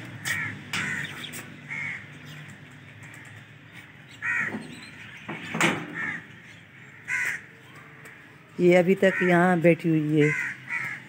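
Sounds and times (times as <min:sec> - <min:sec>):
bird cawing: 0:00.1 - 0:09.6, 0:10.2 - 0:11.0.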